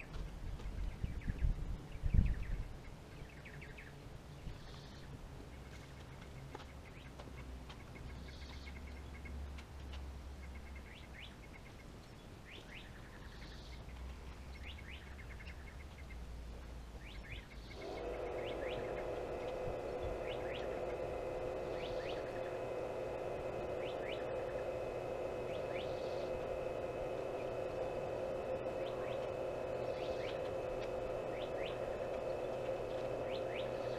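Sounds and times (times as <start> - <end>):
small birds chirping and trilling: 0.0 - 33.9
steady droning hum: 0.0 - 33.9.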